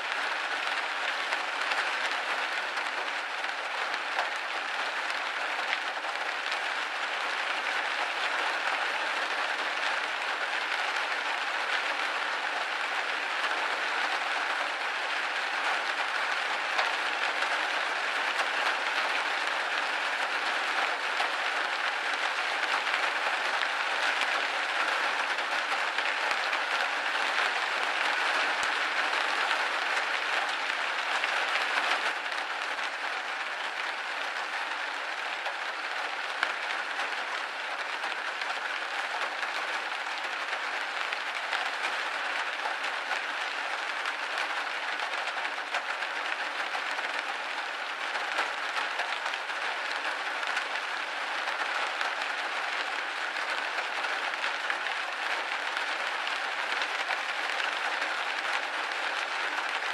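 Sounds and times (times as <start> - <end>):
rain hitting a window: 0.0 - 59.9.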